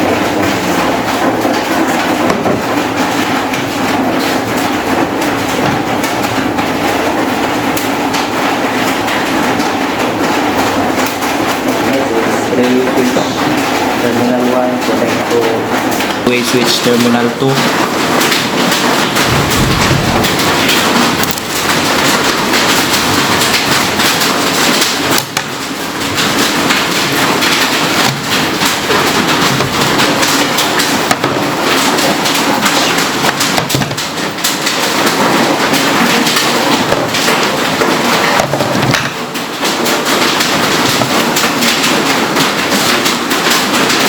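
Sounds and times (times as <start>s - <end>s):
dense crackling and rustling: 0.0s - 44.0s.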